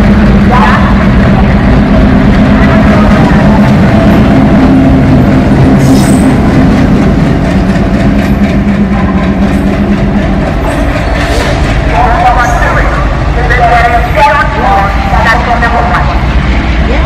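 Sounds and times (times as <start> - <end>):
diesel locomotive engine chugging: 0.0 - 17.0.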